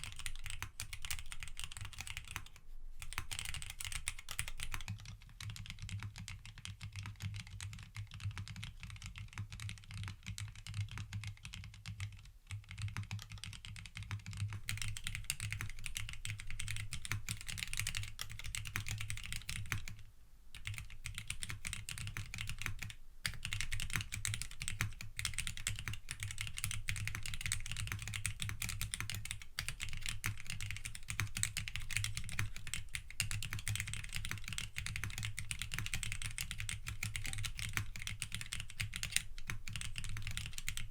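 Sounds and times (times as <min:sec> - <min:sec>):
mechanical keyboard typing: 0:00.0 - 0:20.0, 0:20.6 - 0:40.9.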